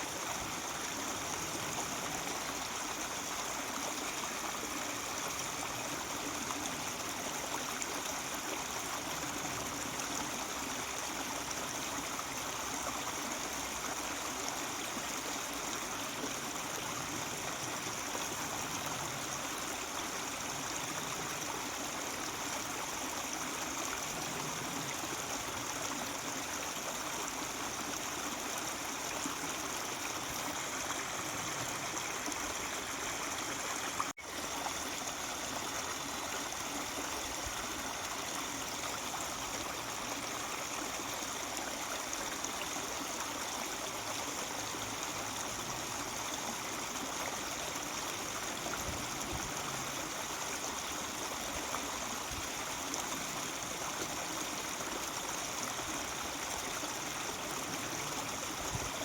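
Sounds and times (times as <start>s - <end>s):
stream rushing water: 0.0s - 59.0s.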